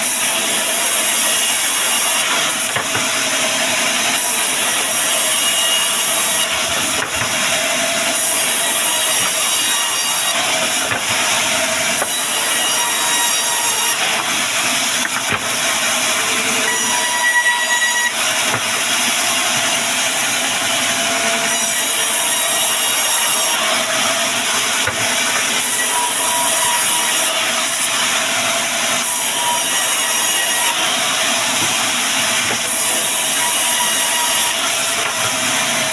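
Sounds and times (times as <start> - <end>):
band saw cutting timber: 0.0 - 35.9.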